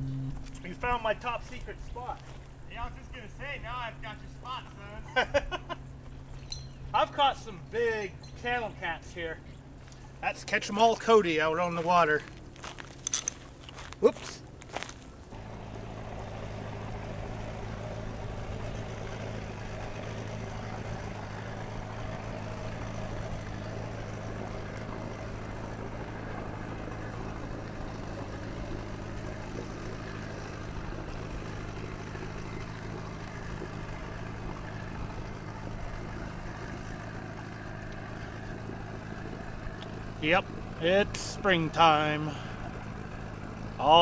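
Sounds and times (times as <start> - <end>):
outboard motor droning: 0.0 - 44.0.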